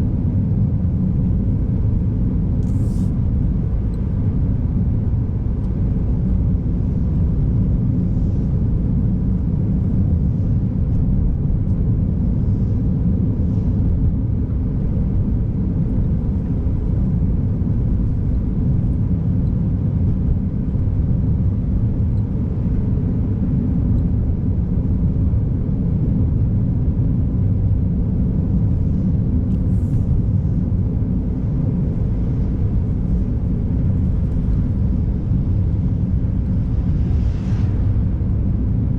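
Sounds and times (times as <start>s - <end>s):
car driving on snowy road: 0.1s - 38.9s.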